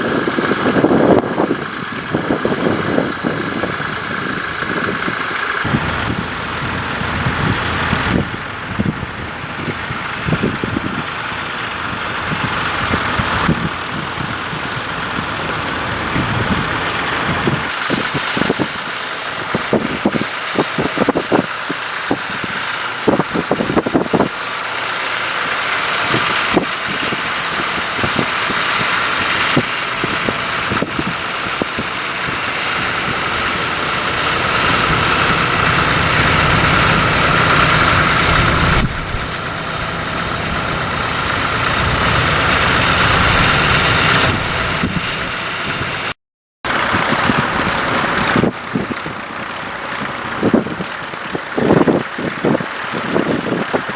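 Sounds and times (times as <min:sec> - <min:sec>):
tractor engine running under load: 0:00.0 - 0:46.1, 0:46.7 - 0:53.9.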